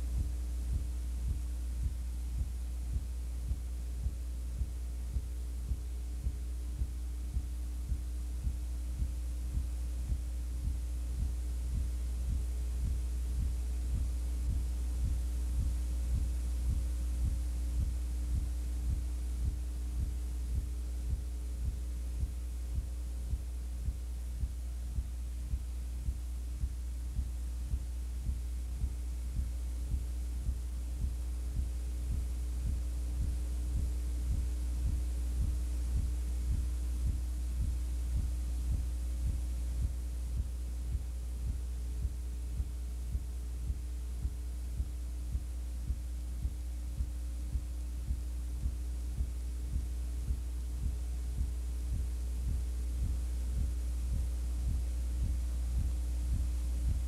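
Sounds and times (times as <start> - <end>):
low electrical hum: 0.0 - 57.0
regular low thump: 0.0 - 57.0.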